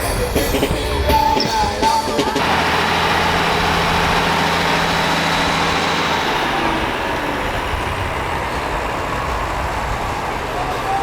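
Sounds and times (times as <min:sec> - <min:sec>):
large vehicle engine humming: 0:00.0 - 0:11.0.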